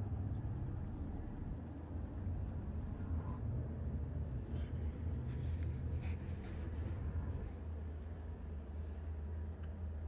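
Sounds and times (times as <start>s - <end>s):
low-pitched hum: 0.0s - 10.0s.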